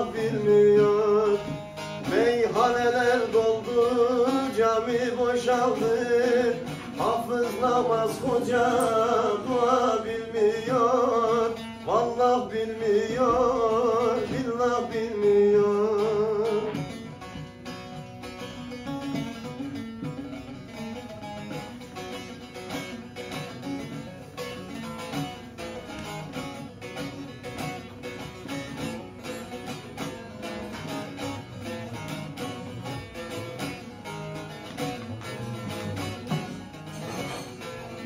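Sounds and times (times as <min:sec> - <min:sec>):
plucked long-necked lute: 0:00.0 - 0:38.0.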